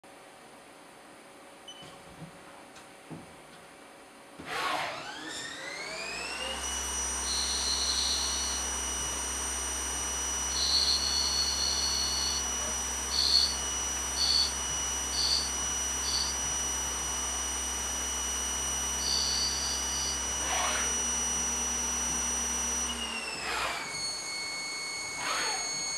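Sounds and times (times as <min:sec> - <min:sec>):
metal lathe spindle whine: 0:04.7 - 0:25.9
lathe tool cutting metal: 0:04.8 - 0:25.9.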